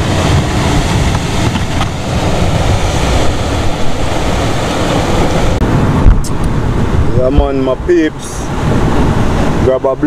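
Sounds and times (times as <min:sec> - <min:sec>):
sea surf washing over rocks: 0:00.0 - 0:10.0
wind buffeting microphone: 0:00.0 - 0:10.0.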